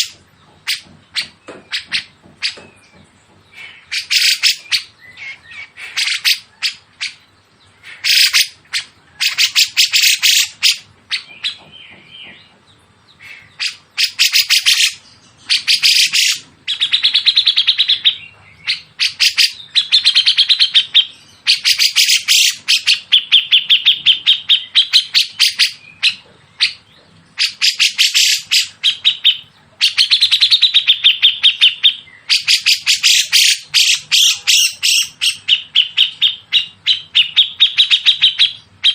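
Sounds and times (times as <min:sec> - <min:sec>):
songbird calling: 0:00.0 - 0:38.9.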